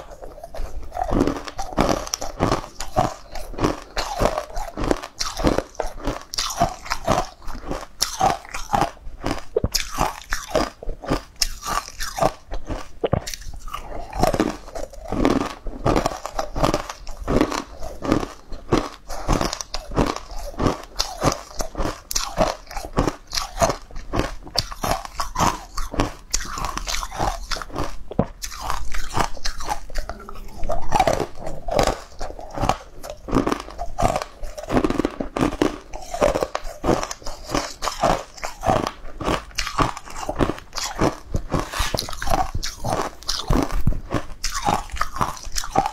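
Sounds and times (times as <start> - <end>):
crunching and chewing ice: 0.0 - 45.9.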